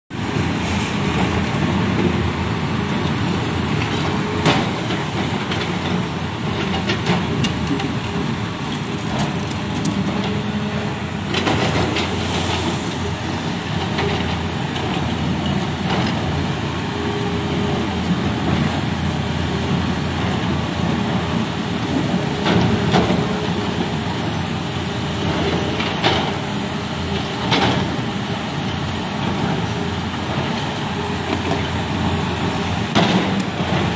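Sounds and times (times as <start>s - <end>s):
diesel engine running under load: 0.1s - 33.9s.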